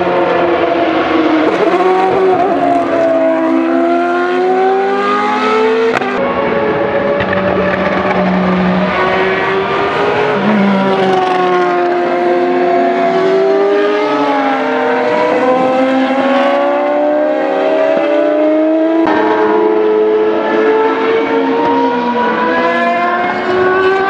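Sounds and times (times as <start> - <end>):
racing car engines revving: 0.0 - 24.0.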